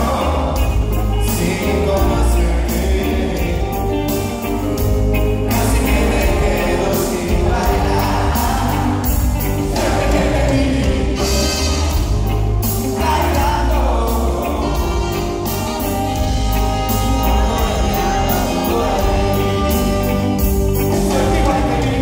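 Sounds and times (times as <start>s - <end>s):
male singer: 0.0s - 12.1s, 12.8s - 22.0s
live reggae band playing: 0.0s - 22.0s.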